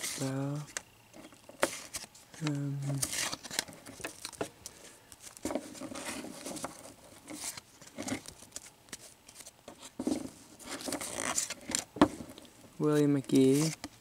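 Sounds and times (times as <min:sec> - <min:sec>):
cards flicking and rustling: 0:01.5 - 0:14.0.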